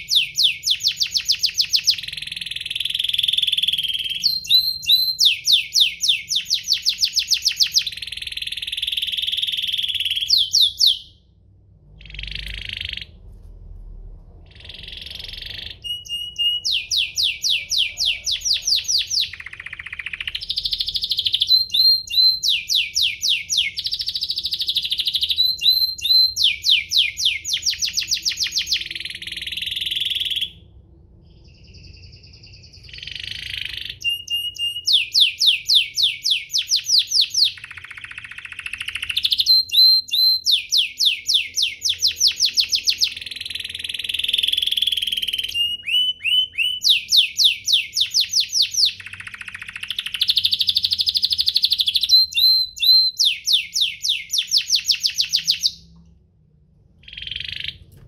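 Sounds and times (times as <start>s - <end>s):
canary singing trills: 0.0s - 11.2s, 11.9s - 13.2s, 14.5s - 30.7s, 31.3s - 56.0s, 57.0s - 58.0s.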